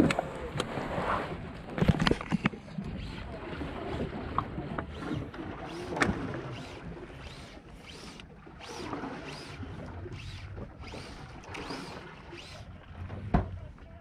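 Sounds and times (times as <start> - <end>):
water lapping against boat: 0.0 - 14.0.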